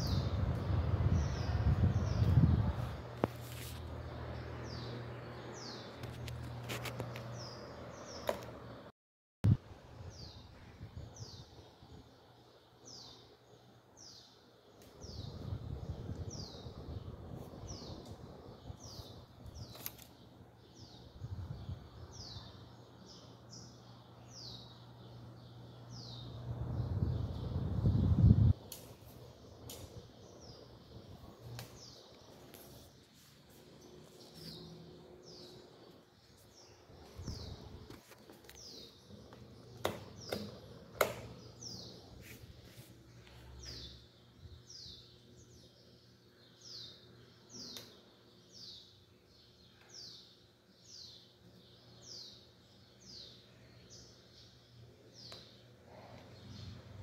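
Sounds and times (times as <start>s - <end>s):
faint steady hum: 0.0s - 57.0s
bird chirping: 10.0s - 56.9s.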